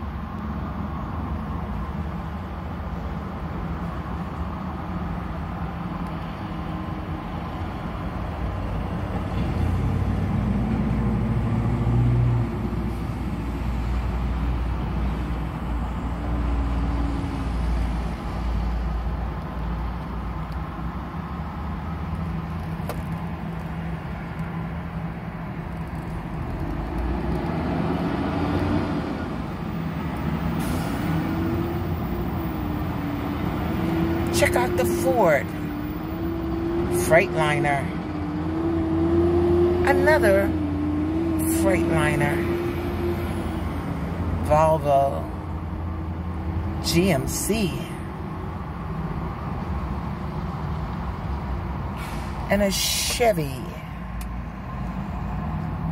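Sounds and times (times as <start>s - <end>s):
low traffic rumble: 0.0s - 55.9s
trucks accelerating: 0.0s - 55.9s.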